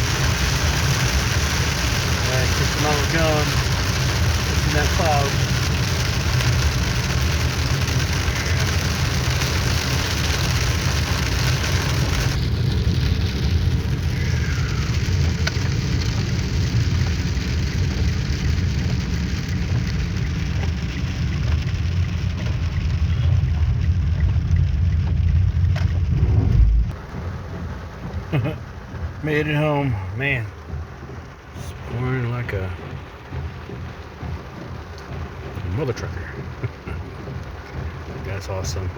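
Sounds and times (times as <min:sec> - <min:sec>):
heavy rain on a car: 0:00.0 - 0:38.9
road and engine rumble: 0:00.0 - 0:38.9.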